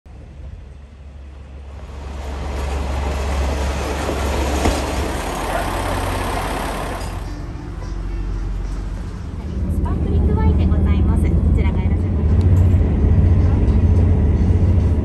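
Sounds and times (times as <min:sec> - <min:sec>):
train running: 0:00.1 - 0:15.0.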